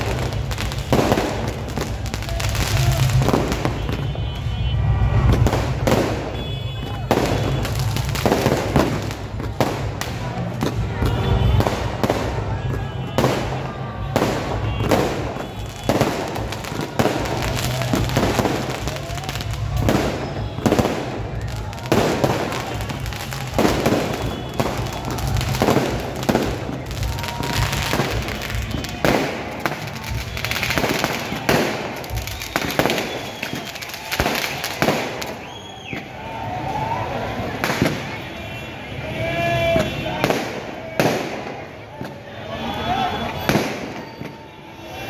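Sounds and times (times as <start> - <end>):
firework crackling: 0.0 - 38.7.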